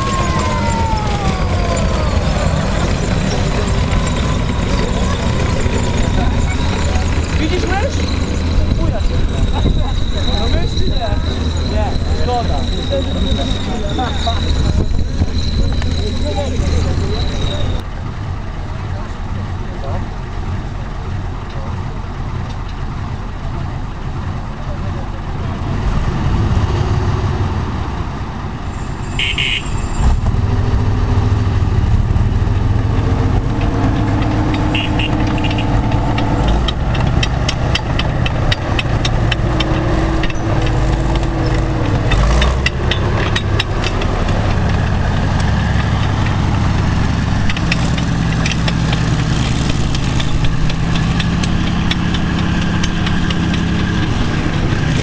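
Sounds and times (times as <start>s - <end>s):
steel tracks clanking: 0.0s - 17.8s, 21.1s - 55.0s
tank diesel engine running: 0.0s - 55.0s.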